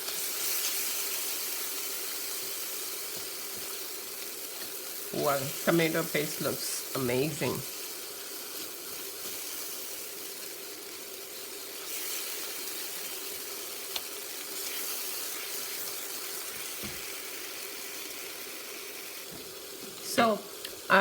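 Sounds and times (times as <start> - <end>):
sauce sizzling in oil: 0.0 - 21.0.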